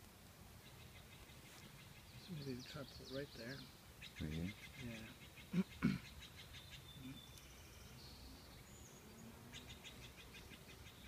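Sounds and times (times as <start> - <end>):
birds whistling and trilling: 0.6 - 11.0
loud short bird calls: 0.6 - 11.0.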